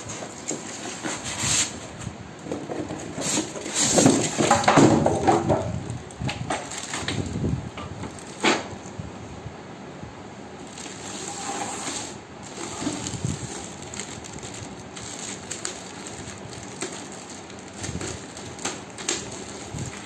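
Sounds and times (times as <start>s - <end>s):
cardboard and plastic rustling: 0.0s - 9.1s, 10.6s - 20.0s.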